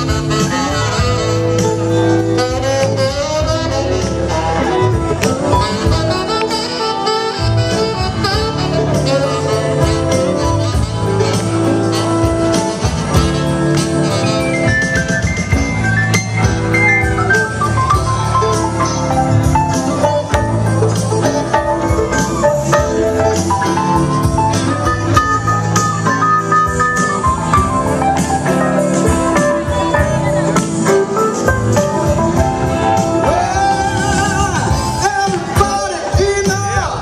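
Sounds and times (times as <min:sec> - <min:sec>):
saxophone lead: 0:00.0 - 0:35.6
bass line: 0:00.0 - 0:37.0
drums: 0:00.0 - 0:37.0.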